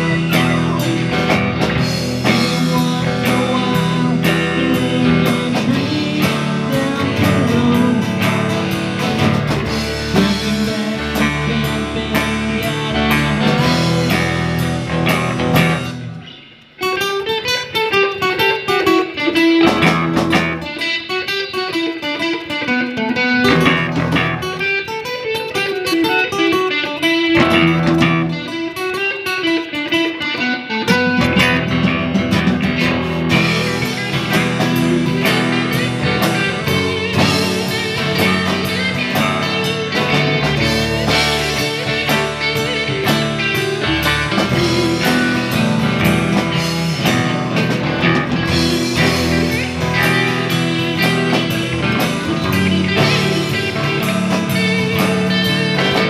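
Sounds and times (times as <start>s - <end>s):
live rock band playing: 0.0s - 56.0s
melodic guitar passage: 0.0s - 56.0s.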